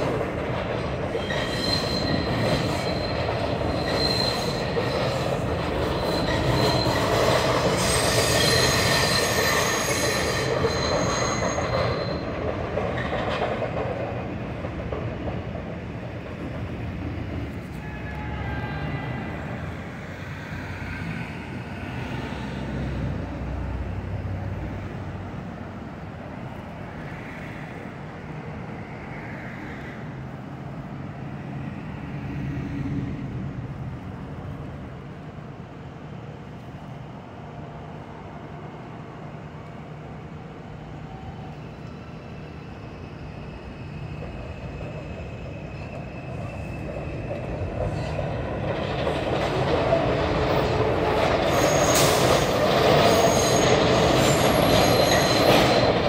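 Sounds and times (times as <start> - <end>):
elevated train rumbling: 0.0 - 56.0.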